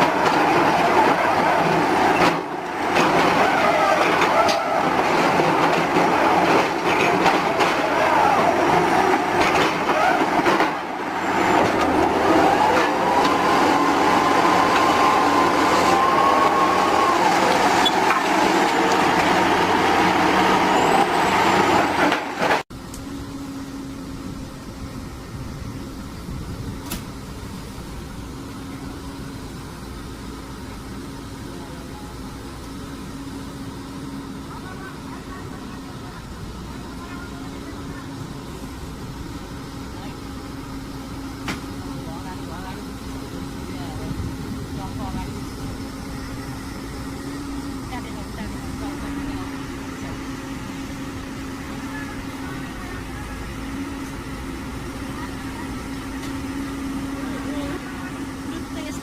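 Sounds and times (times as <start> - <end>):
machinery rumbling: 0.0 - 59.0.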